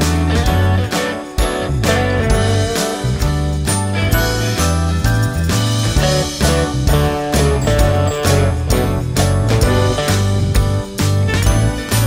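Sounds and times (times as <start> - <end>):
background music with drum beat: 0.0 - 12.0
bass line: 0.0 - 12.0.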